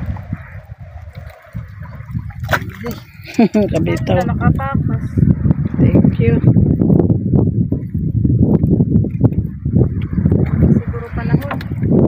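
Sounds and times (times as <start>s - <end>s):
sea water washing: 0.0s - 6.8s, 7.5s - 12.0s
wind buffeting microphone: 0.0s - 12.0s.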